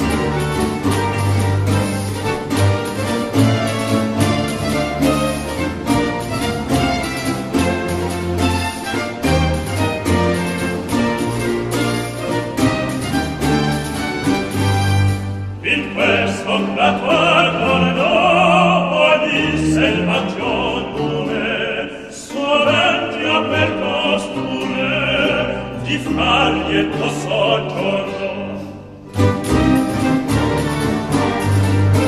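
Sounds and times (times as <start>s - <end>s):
operatic singing: 0.0s - 32.0s
orchestral accompaniment: 0.0s - 32.0s.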